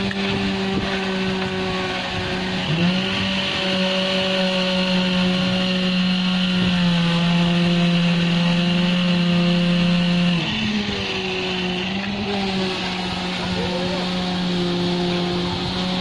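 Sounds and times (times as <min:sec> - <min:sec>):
construction machinery motor hum: 0:00.0 - 0:16.0.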